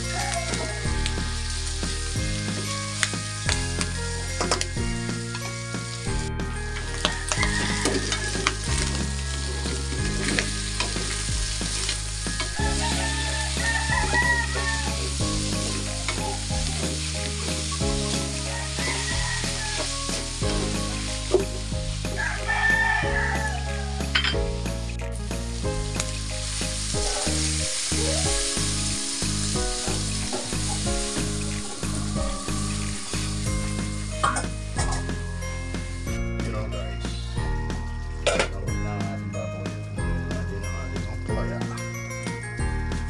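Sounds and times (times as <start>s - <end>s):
food sizzling in hot oil: 0.0s - 36.4s.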